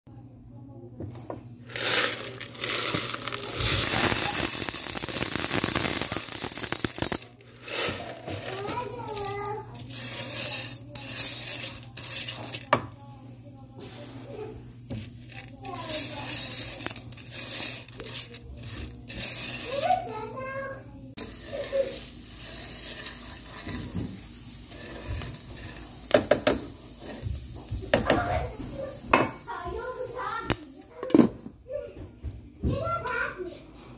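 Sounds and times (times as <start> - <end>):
popcorn kernels sizzling in oil: 1.7 - 31.0.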